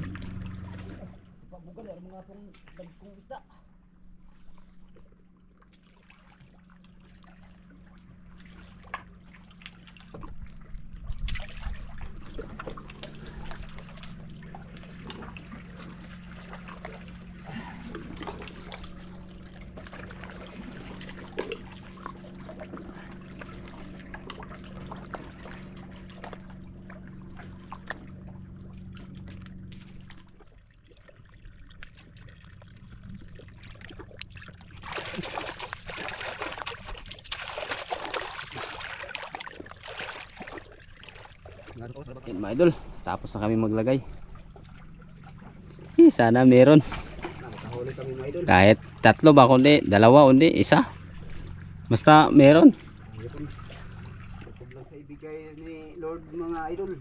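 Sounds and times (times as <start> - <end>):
steady low hum: 0.0 - 57.0
water sloshing and trickling: 0.0 - 57.0
small splashes and knocks: 2.4 - 3.2, 4.3 - 43.0, 44.1 - 46.0, 46.6 - 54.9.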